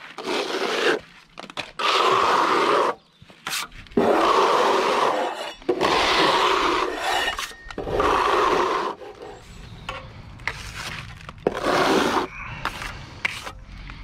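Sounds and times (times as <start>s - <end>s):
trowel scraping render on wall: 0.0s - 9.6s, 10.4s - 13.6s.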